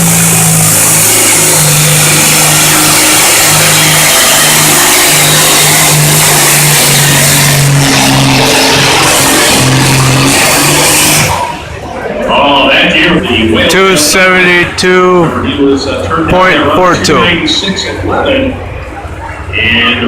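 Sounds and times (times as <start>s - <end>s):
diesel tractor engine at high revs: 0.0s - 20.0s.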